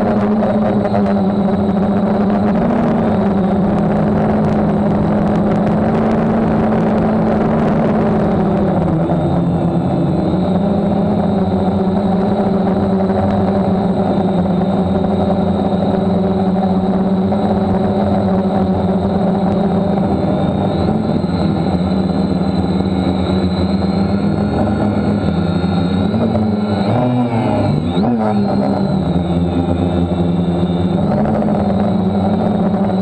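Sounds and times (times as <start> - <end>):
drone motors buzzing: 0.0 - 33.0.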